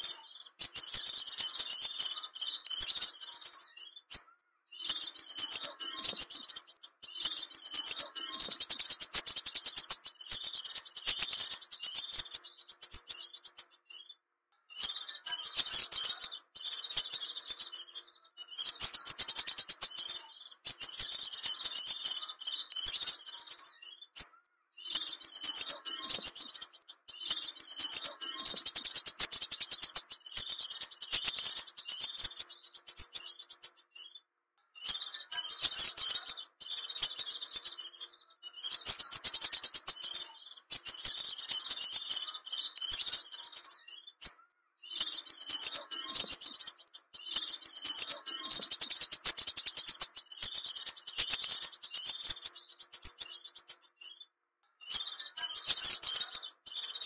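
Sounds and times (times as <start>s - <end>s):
bird twittering song: 0.0s - 57.0s.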